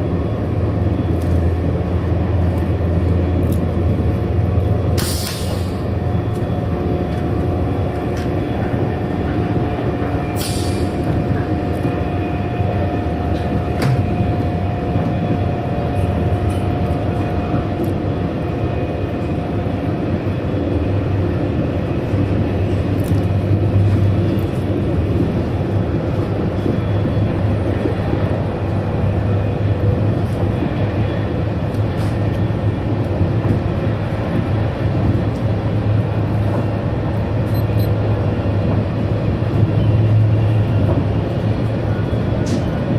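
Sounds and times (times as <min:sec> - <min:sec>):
train running rumble: 0:00.0 - 0:42.9.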